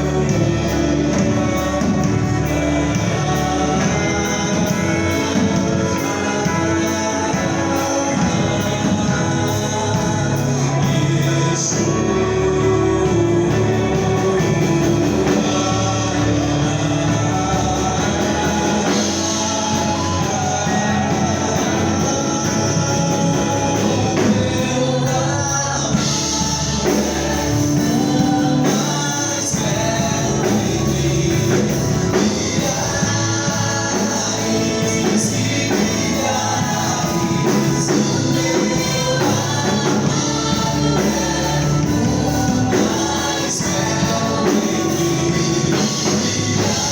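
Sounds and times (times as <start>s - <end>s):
people singing: 0.0s - 46.9s
worship band playing gospel song: 0.0s - 46.9s.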